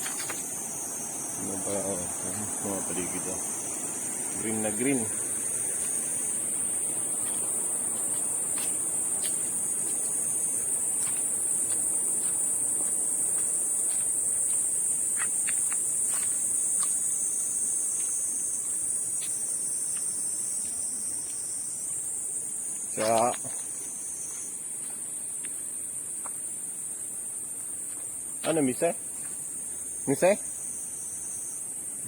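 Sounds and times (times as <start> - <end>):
insects buzzing: 0.0 - 32.0.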